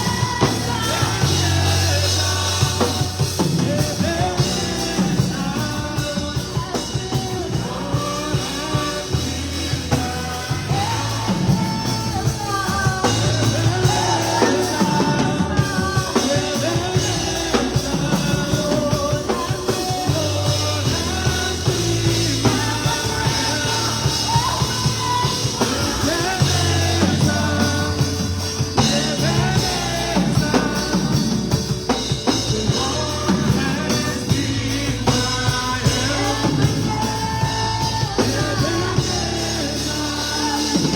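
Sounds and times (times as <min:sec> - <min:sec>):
bass notes: 0:00.0 - 0:40.9
drum kit beat: 0:00.0 - 0:40.9
person singing: 0:00.0 - 0:40.9.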